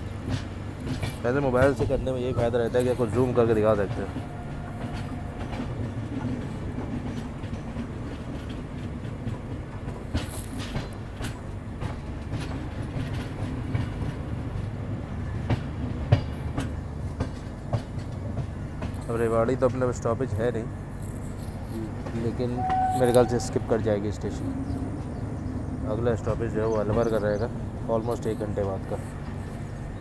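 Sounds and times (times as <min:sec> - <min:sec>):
train coaches rumbling: 0:00.0 - 0:30.0
wheels clicking on rails: 0:00.0 - 0:30.0.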